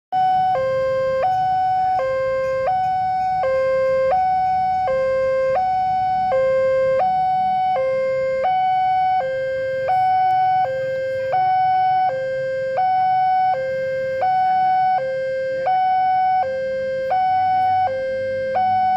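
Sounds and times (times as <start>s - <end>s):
level-crossing warning alarm: 0.1s - 18.9s.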